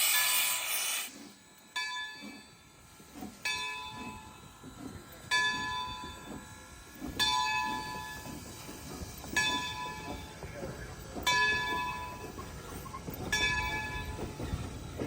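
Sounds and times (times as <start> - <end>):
steam locomotive bell ringing: 0.0 - 15.0.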